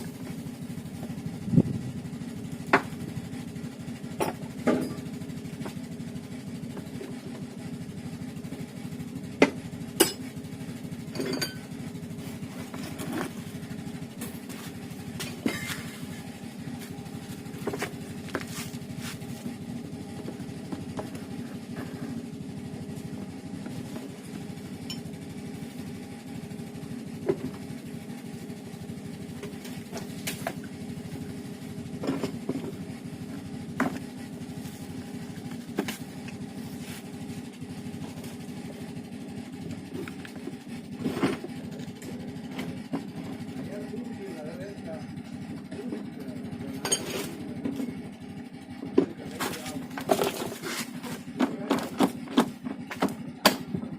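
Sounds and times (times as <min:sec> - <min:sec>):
pressure washer motor humming: 0:00.0 - 0:53.9.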